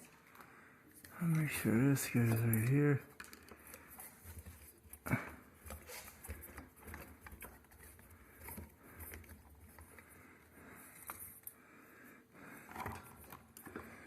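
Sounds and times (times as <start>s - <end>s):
light clicks and rustles: 0.0s - 11.6s.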